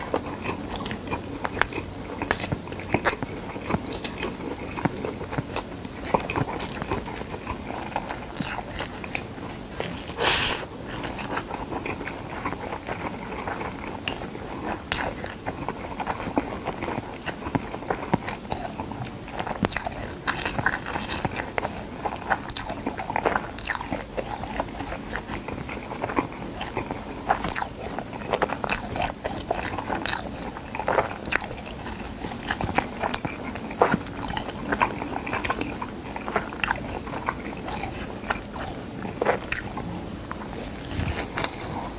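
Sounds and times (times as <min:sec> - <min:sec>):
crisp crunching of seaweed: 0:00.0 - 0:41.9
wet chewing: 0:00.0 - 0:41.9.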